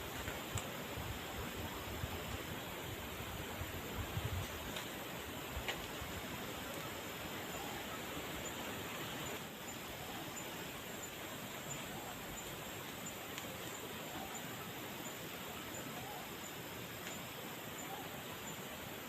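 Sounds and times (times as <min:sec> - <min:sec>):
outdoor ambient noise: 0:00.0 - 0:19.0.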